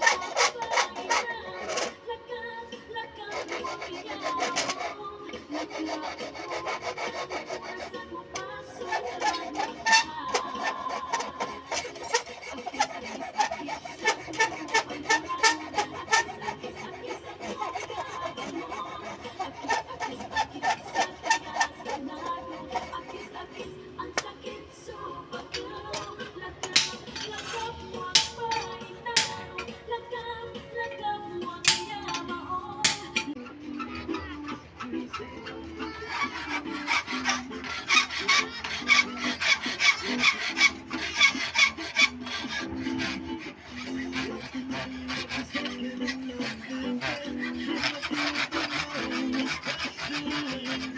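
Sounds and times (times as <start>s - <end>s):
file scraping steel blade: 0.0s - 24.6s, 25.3s - 29.8s, 31.2s - 50.9s.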